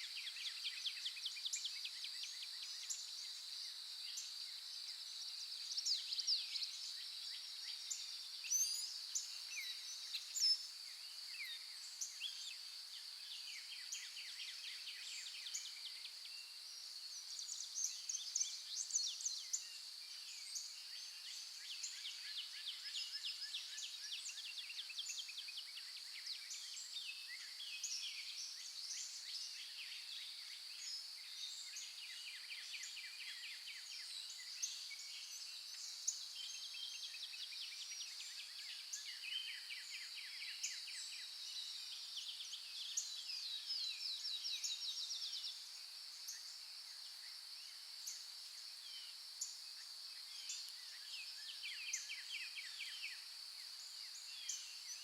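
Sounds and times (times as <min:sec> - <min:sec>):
songbirds chirping and trilling: 0:00.0 - 0:55.0
steady high-pitched hiss: 0:00.0 - 0:55.0.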